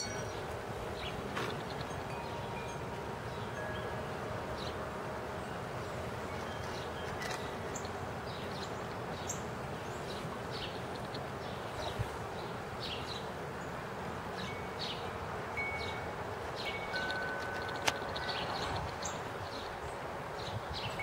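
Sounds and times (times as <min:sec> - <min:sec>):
small birds chirping: 0:00.0 - 0:03.9, 0:05.4 - 0:13.8, 0:15.8 - 0:21.0
steady outdoor hiss: 0:00.0 - 0:21.0.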